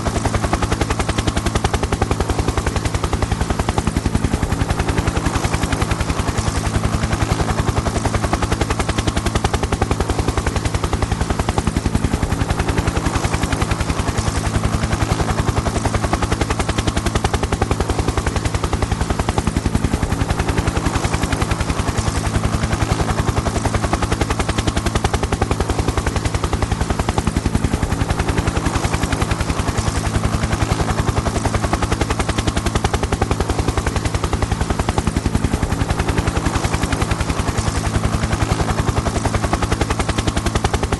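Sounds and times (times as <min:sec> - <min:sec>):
helicopter engine drone: 0:00.0 - 0:40.9
helicopter rotor chopping: 0:00.0 - 0:40.9.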